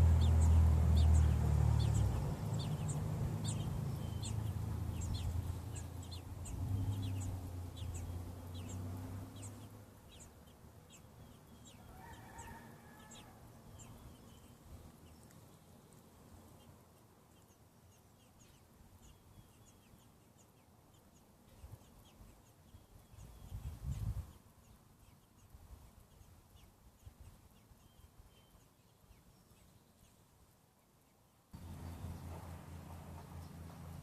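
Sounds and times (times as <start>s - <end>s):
nestlings peeping: 0.0s - 34.0s.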